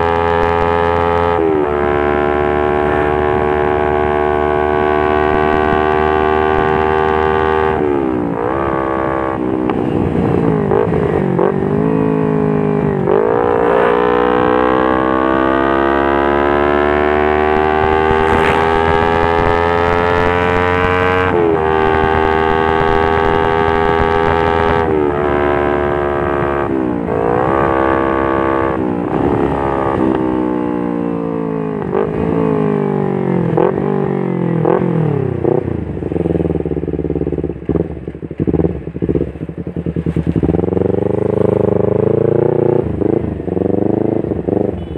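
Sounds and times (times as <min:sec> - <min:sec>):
motorcycle engine revving high: 0:00.0 - 0:39.2.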